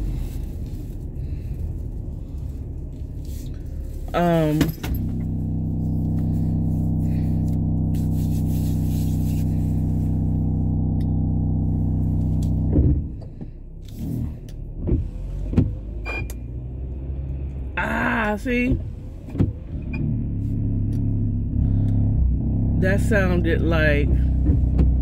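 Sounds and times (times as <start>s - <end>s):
buzzing drone inside car: 0.0s - 25.0s.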